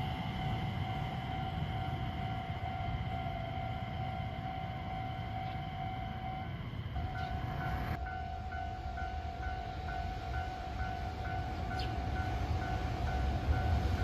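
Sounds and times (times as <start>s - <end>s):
train rumbling and whining: 0.0s - 14.0s.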